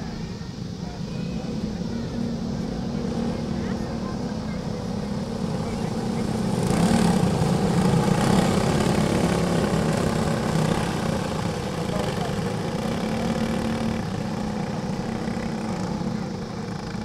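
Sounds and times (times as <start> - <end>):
go-kart engines passing: 0.0 - 17.0.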